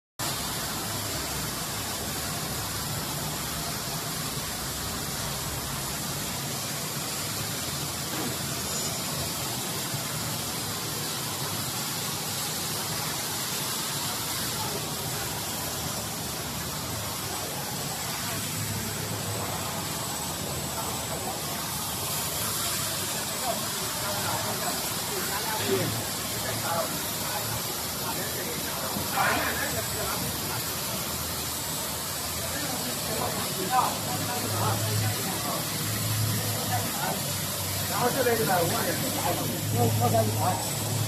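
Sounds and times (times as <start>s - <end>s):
machine hissing: 0.2s - 41.0s.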